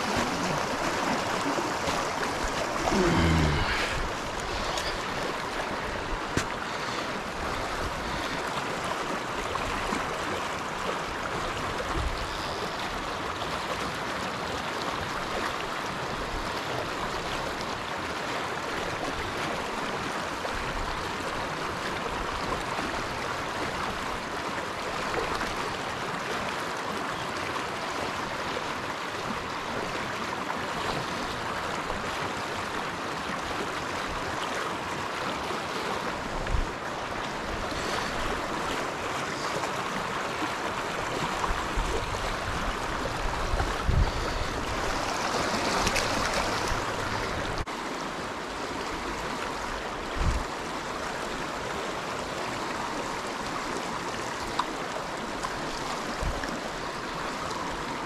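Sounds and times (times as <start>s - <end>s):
river running over rocks: 0.0s - 58.0s.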